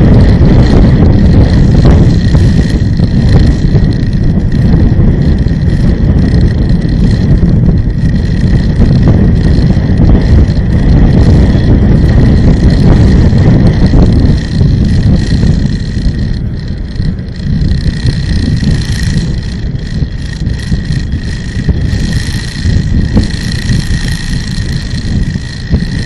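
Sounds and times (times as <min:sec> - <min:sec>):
engine and road noise rumble: 0:00.0 - 0:26.0
high whine: 0:00.0 - 0:26.0
wind buffeting microphone: 0:00.0 - 0:26.0.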